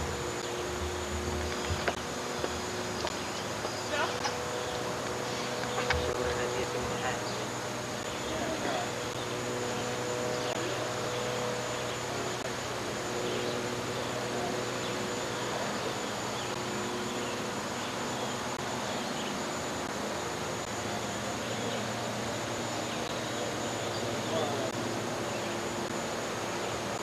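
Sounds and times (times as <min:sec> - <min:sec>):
faint low hum: 0:00.0 - 0:27.0
high-pitched whine: 0:00.0 - 0:27.0
steady hiss: 0:00.0 - 0:27.0.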